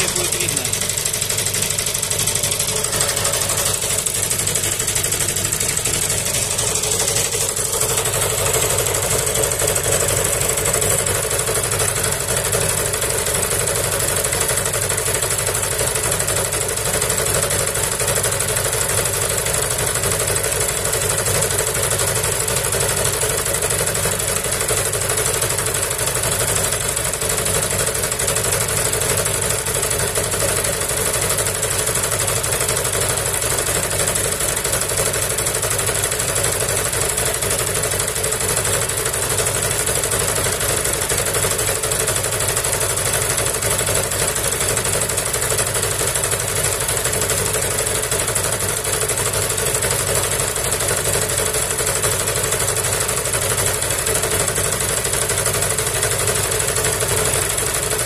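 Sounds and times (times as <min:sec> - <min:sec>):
small gasoline engine running: 0:00.0 - 0:58.0.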